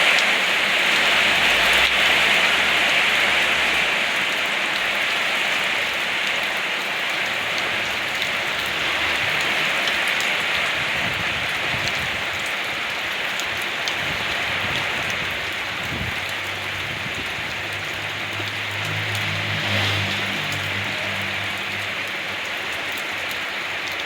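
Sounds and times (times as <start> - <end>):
steady rain hiss: 0.0 - 24.0
raindrop ticks: 0.1 - 24.0.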